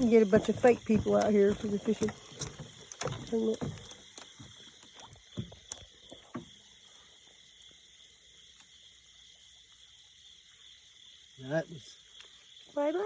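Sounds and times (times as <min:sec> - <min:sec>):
faint outdoor background: 0:00.0 - 0:13.0
water splashing and sloshing: 0:00.0 - 0:13.0.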